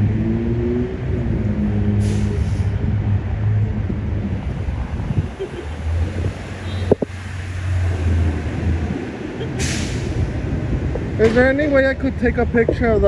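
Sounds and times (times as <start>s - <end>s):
vehicle engine humming: 0.0s - 13.0s
wind noise on microphone: 0.0s - 13.0s.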